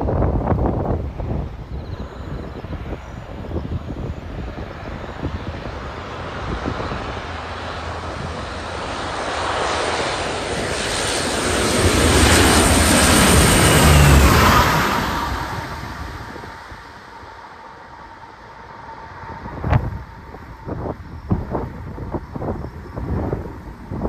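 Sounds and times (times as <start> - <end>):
wind rumbling on microphone: 0.0 - 17.3, 18.5 - 24.0
propeller aircraft engine approaching: 0.0 - 24.0.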